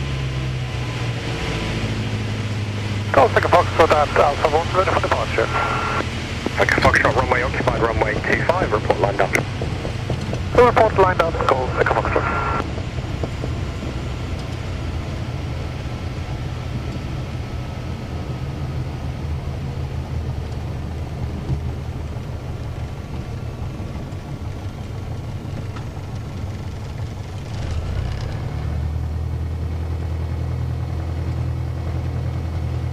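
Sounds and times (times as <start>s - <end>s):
light aircraft engine droning: 0.0s - 32.9s.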